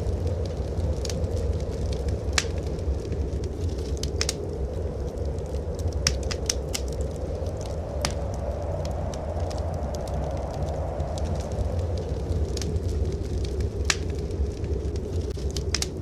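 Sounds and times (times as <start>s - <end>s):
steady low rumble: 0.0s - 16.0s
wood fire crackling and popping: 0.0s - 16.0s.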